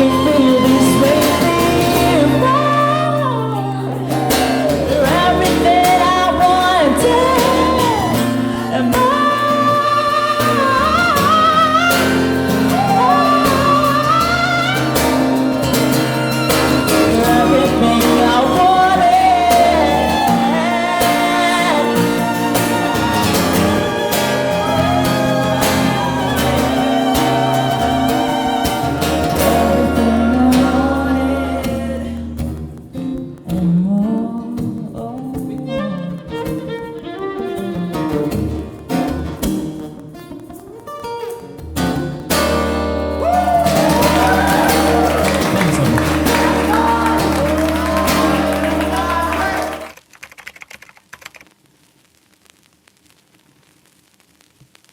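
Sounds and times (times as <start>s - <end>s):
live pop ballad: 0.0s - 37.0s, 42.3s - 49.9s
person singing: 0.0s - 39.4s, 42.3s - 50.0s.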